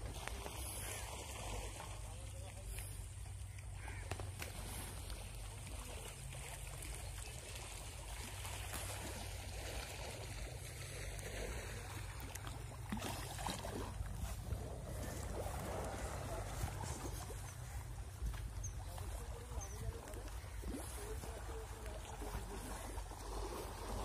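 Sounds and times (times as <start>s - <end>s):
water trickling: 4.6s - 24.0s.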